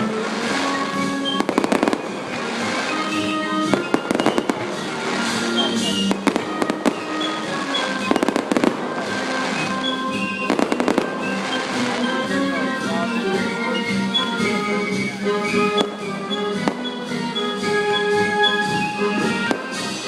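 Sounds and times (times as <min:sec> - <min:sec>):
fireworks cracking: 0:00.0 - 0:17.4, 0:18.7 - 0:20.0
music playing: 0:00.0 - 0:20.0.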